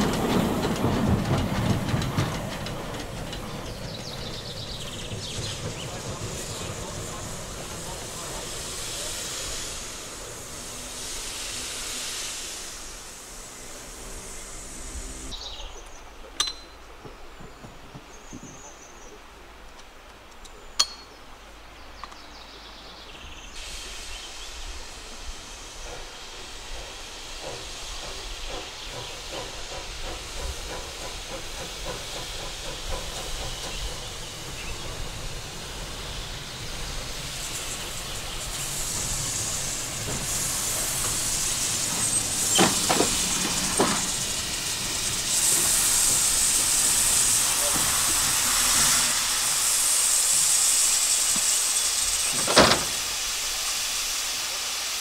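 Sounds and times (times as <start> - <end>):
steam locomotive hissing: 0.0 - 16.2, 22.3 - 55.0.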